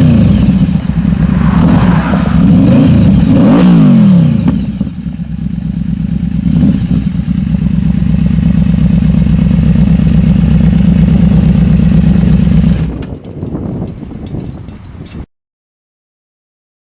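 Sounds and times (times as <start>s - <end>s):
motorcycle engine running hard: 0.0s - 15.3s.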